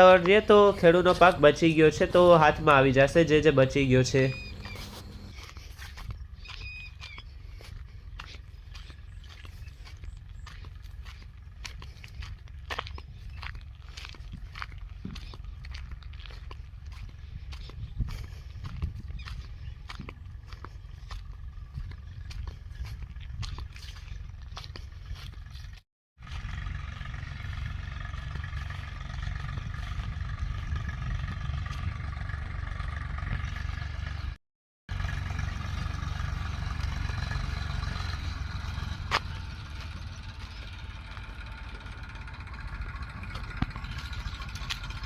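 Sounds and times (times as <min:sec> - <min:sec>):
engine low rumble: 0:00.0 - 0:45.0.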